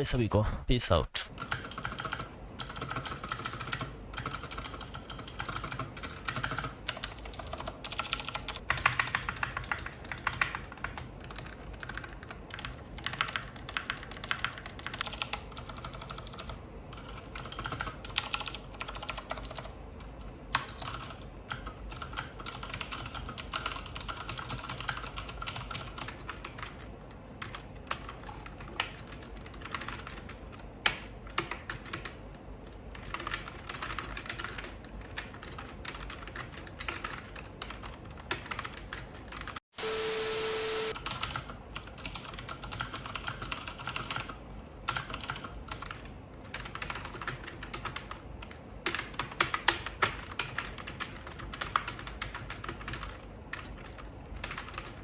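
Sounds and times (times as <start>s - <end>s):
fast mechanical keyboard typing: 1.3s - 39.6s, 40.9s - 55.0s.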